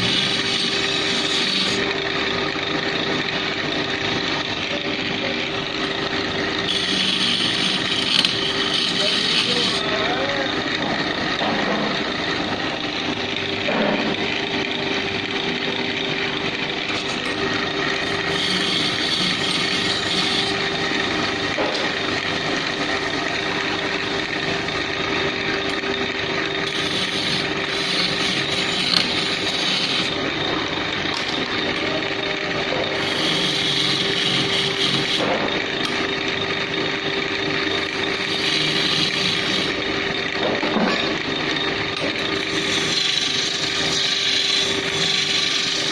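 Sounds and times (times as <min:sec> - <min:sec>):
turning tool cutting wood: 0:00.0 - 0:11.3, 0:12.3 - 0:45.9
wood lathe motor humming: 0:00.0 - 0:45.9.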